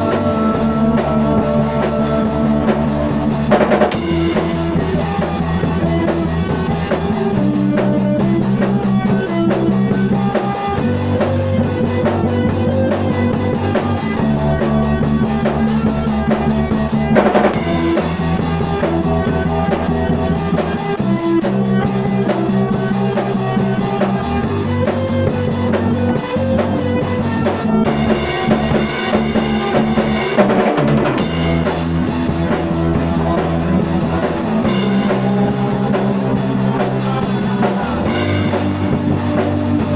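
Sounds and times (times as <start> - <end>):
bass line: 0.0 - 39.9
drum kit beat: 0.0 - 39.9
guitar: 0.0 - 39.9.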